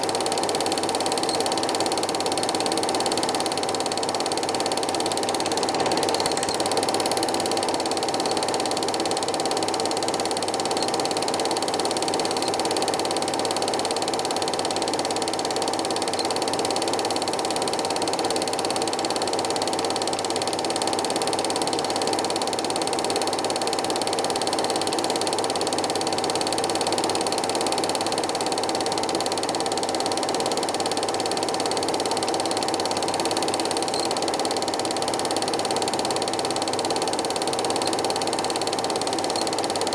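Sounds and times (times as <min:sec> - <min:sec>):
film projector clatter: 0:00.0 - 0:39.9.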